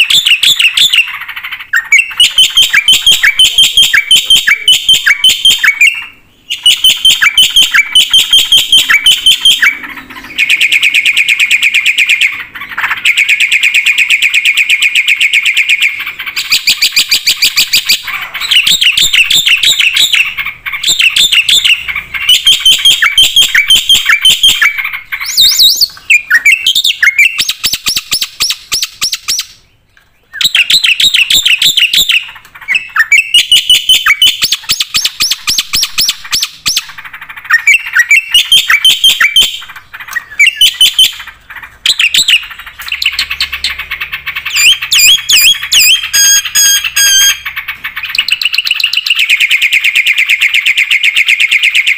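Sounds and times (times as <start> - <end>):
bird chattering song: 0.0 - 51.9.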